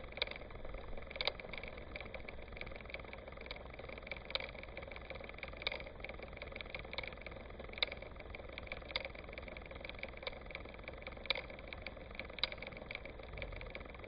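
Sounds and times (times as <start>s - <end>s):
engine idling: 0.0s - 14.0s
sharp clicks: 0.0s - 14.0s.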